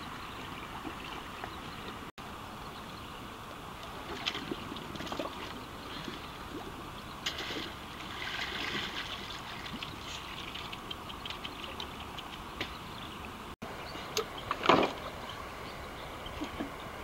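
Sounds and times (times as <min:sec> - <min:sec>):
water splashing and trickling: 0:00.0 - 0:02.1, 0:03.3 - 0:17.0.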